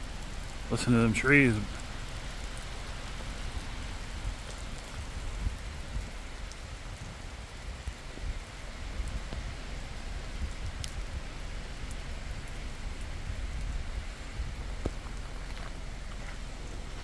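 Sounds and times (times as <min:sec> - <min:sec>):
raindrops ticking close by: 0:00.0 - 0:17.0
steady rain falling: 0:00.0 - 0:17.0.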